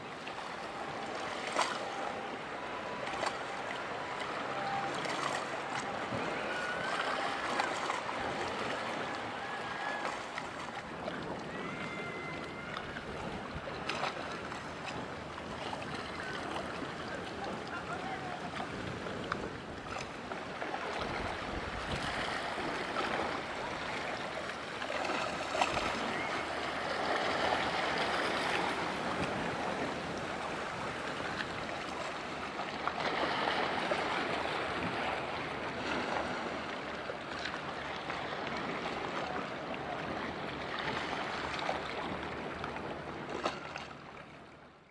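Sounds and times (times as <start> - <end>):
small waves washing on shore: 0.0 - 44.9.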